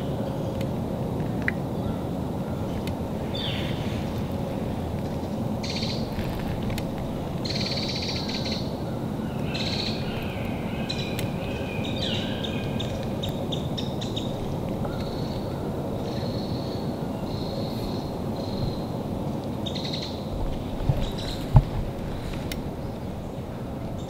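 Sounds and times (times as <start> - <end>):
low rushing background noise: 0.0 - 24.0
small birds chirping and trilling: 1.8 - 24.0.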